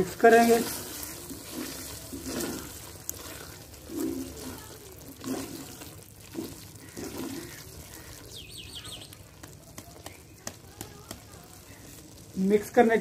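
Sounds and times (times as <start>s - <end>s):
wooden spoon stirring wet food: 0.0s - 13.0s.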